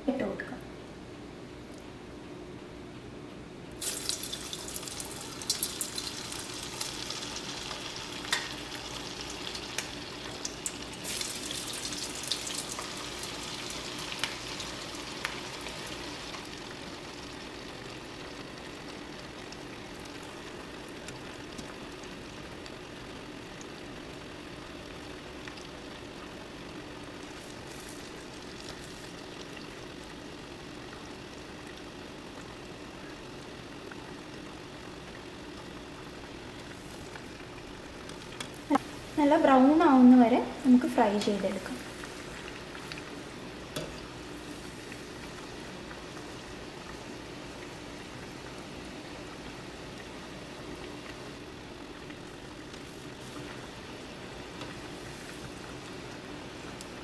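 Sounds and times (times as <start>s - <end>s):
fritters sizzling in hot oil: 3.8s - 57.0s.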